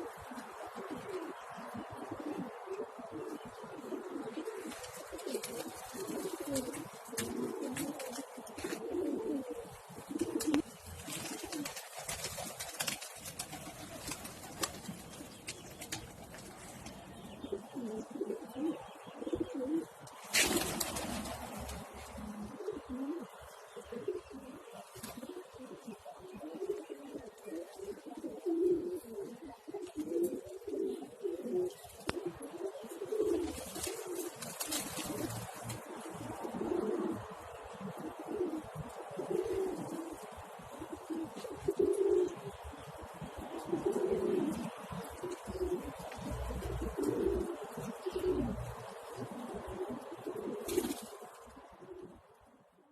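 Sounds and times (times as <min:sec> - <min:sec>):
pigeons cooing: 0:00.0 - 0:52.3.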